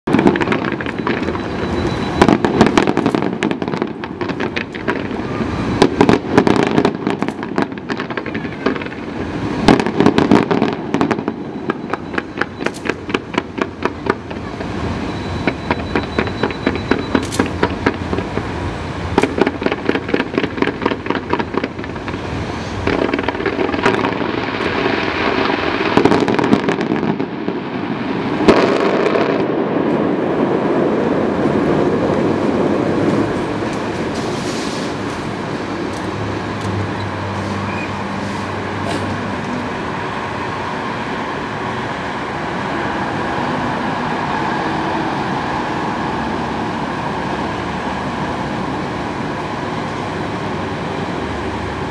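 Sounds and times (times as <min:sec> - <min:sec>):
steady rushing noise: 0:00.0 - 0:51.9
distant fireworks bangs and crackling: 0:00.1 - 0:51.9.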